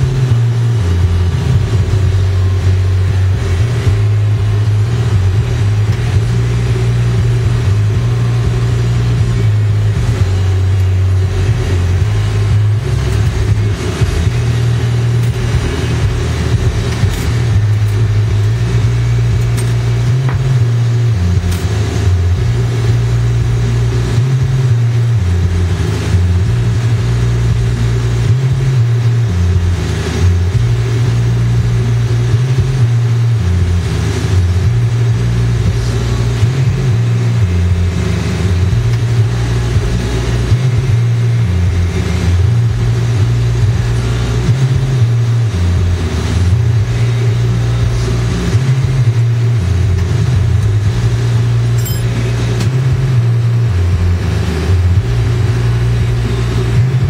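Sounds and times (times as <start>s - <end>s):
torch burning rumble and hiss: 0.0s - 51.7s.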